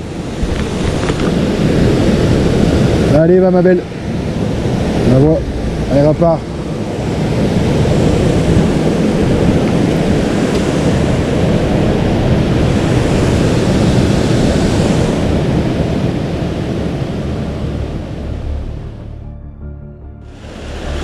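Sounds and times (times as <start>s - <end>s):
fast-flowing river water: 0.0s - 18.0s.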